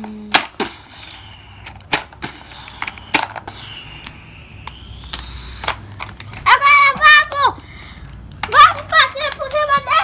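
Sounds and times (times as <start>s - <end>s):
plastic toys clicking and knocking: 0.0s - 10.0s.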